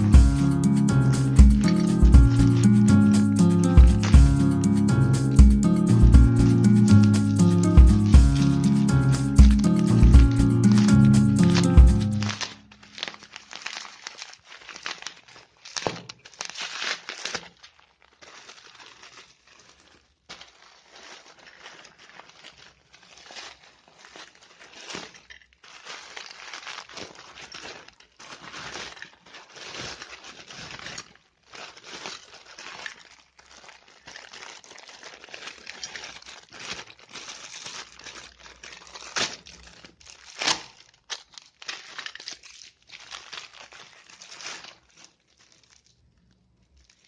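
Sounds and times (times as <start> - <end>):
plastic packaging crinkling: 0.0 - 47.0.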